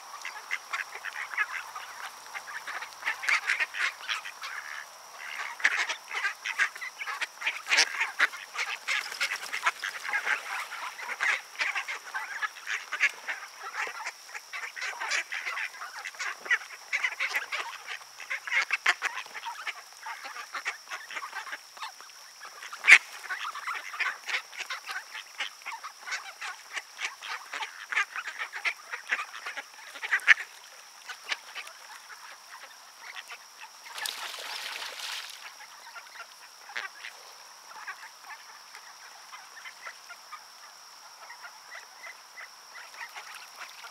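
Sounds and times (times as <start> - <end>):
ducks quacking: 0.0 - 21.6, 22.5 - 40.4.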